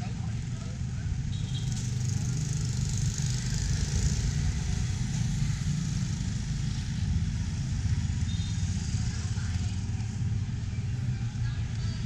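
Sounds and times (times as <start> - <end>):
motorbike and car engines: 0.0 - 12.0.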